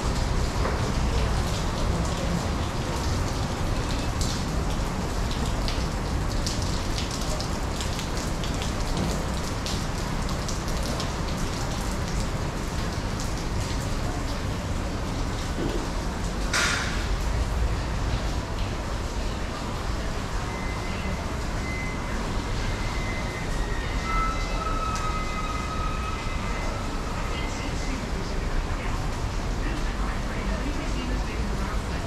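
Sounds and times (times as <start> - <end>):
rain falling: 0.0 - 32.0
raindrops splashing: 0.0 - 32.0.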